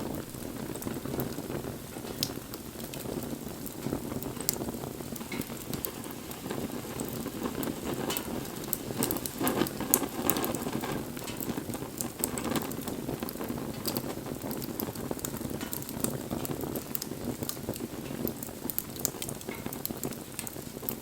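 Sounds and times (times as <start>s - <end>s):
rush of flames: 0.0s - 21.0s
wood fire crackling: 0.0s - 21.0s.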